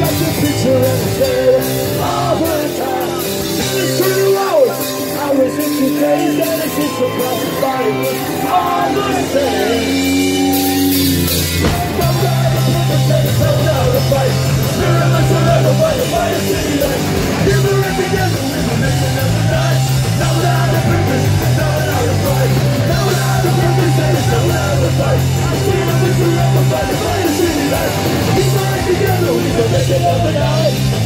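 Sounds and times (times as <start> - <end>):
bass line: 0.0 - 31.0
distorted electric guitars: 0.0 - 31.0
drums: 0.0 - 31.0
person singing: 0.0 - 31.0.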